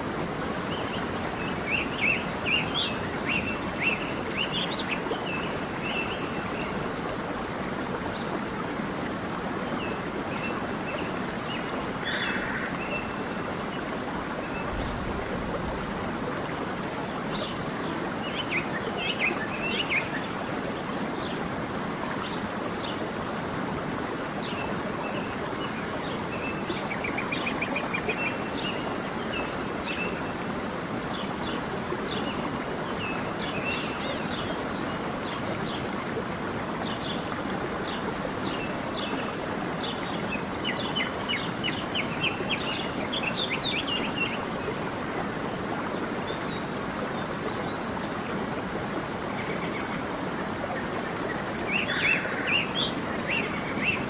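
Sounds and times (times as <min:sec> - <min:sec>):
stream running: 0:00.0 - 0:54.0.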